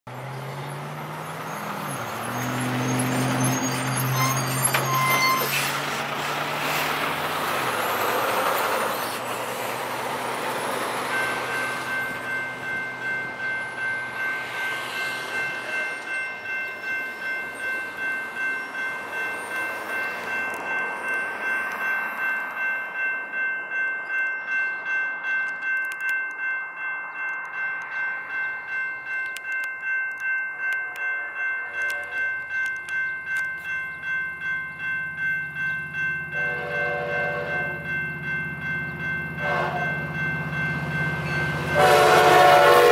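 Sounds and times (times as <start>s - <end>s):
railroad crossing bell ringing: 0.1s - 42.9s.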